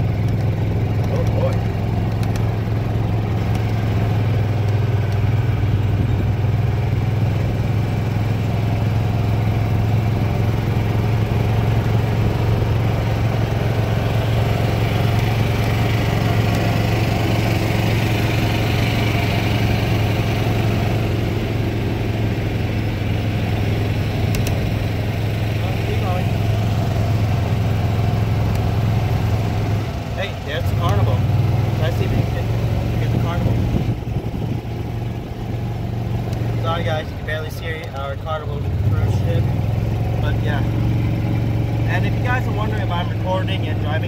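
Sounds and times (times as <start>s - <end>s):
golf cart motor drone: 0.0s - 44.0s
road and wind noise: 0.0s - 44.0s.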